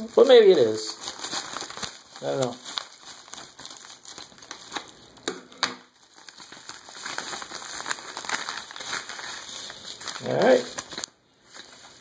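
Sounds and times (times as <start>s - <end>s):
mailer crinkling and rustling: 0.0s - 5.2s, 5.9s - 12.0s
sharp paper crackles: 0.0s - 5.2s, 5.9s - 12.0s.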